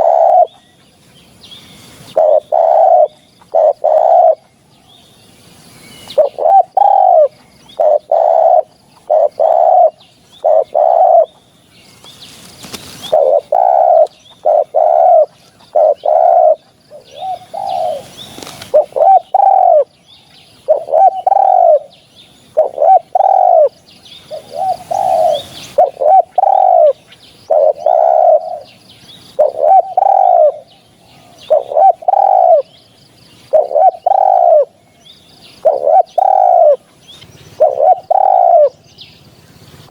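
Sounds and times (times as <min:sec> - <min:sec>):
dove cooing: 0:00.0 - 0:00.7, 0:01.7 - 0:04.5, 0:06.0 - 0:11.5, 0:13.0 - 0:20.0, 0:20.6 - 0:32.8, 0:33.4 - 0:34.8, 0:35.6 - 0:38.8.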